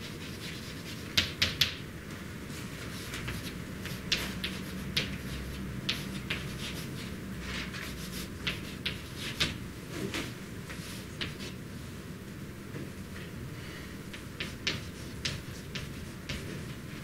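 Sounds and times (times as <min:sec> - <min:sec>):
chalk tapping and scraping blackboard: 0:00.0 - 0:01.8, 0:02.5 - 0:11.6, 0:14.1 - 0:17.0.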